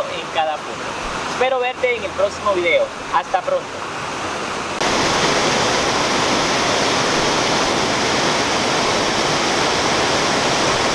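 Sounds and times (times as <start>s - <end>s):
water rushing over weir: 0.0s - 10.9s.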